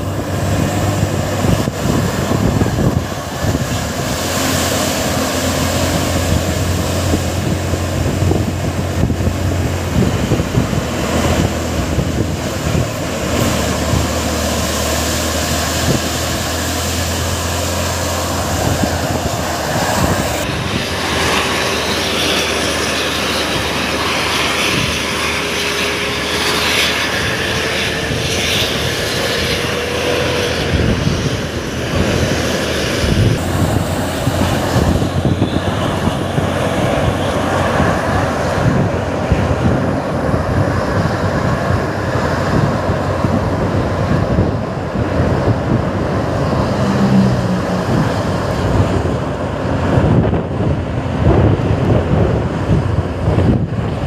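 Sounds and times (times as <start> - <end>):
vehicle driving noise: 0.0 - 54.0.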